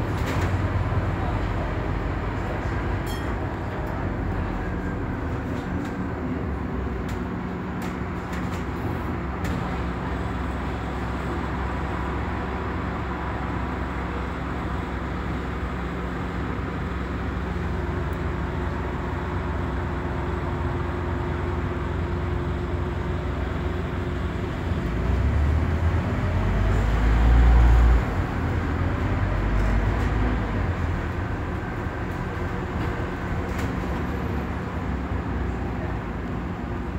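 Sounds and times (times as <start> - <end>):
bus diesel engine: 0.0 - 36.9.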